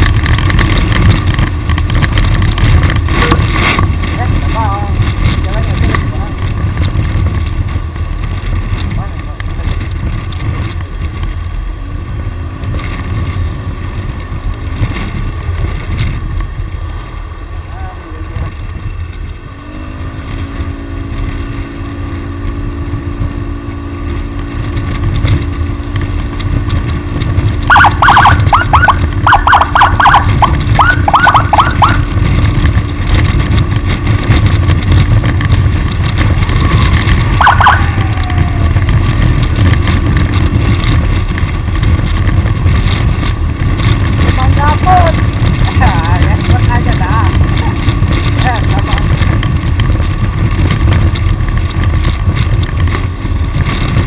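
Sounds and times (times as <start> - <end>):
motorcycle engine: 0.0 - 54.0
wind rumble on microphone: 0.0 - 54.0.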